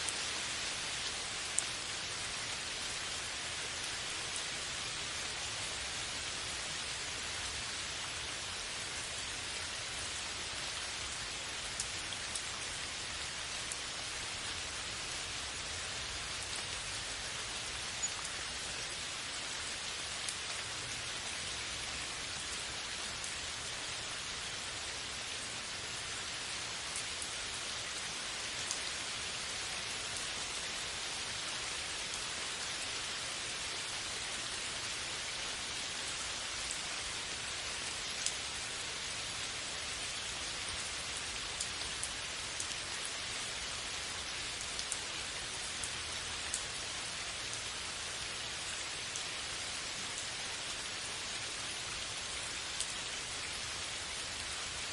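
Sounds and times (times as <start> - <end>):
steady rainfall hiss: 0.0 - 54.9.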